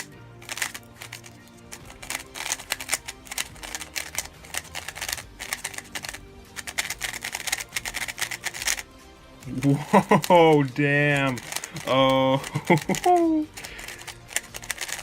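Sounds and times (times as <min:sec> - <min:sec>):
speedcube plastic clicks: 0:00.0 - 0:08.8, 0:11.3 - 0:15.0.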